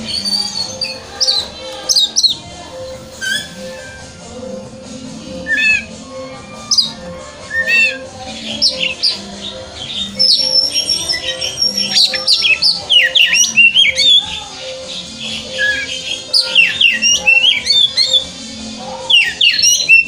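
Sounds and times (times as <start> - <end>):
songbird singing whistles: 0.0 - 4.3, 5.4 - 18.4, 19.0 - 20.0.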